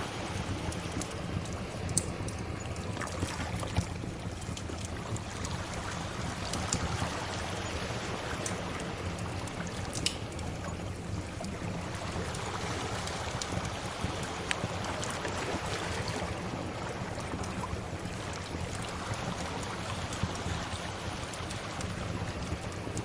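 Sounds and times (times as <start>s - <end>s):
sea waves washing: 0.0s - 23.0s
wood fire crackling and popping: 0.0s - 23.0s.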